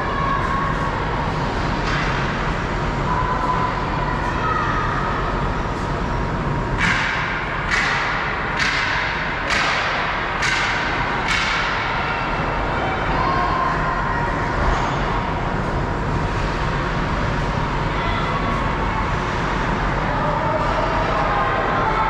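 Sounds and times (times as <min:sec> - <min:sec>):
arena noise: 0:00.0 - 0:22.0.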